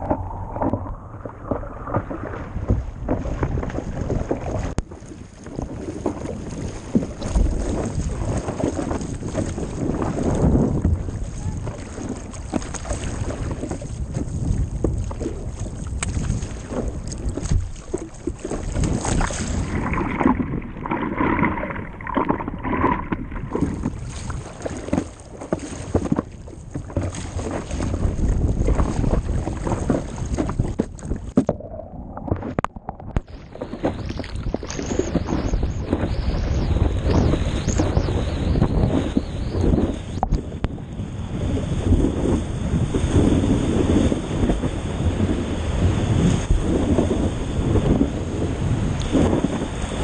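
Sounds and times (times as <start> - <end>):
water sloshing and splashing: 0.0 - 40.8
wind on microphone: 0.0 - 50.0.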